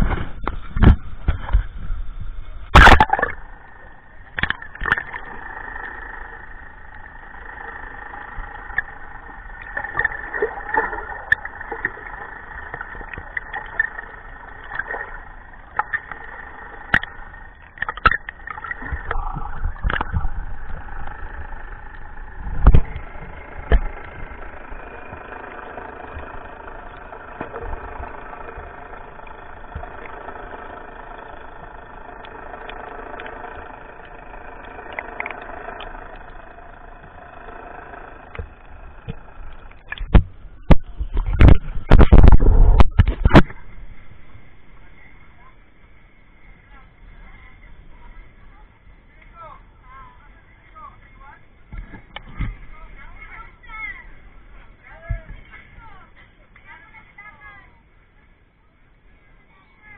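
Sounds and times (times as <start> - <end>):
muffled boat engine drone underwater: 0.0 - 59.9.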